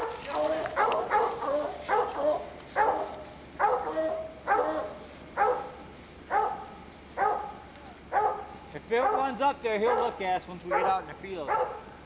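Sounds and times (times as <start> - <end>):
hound barking: 0.0 - 12.0.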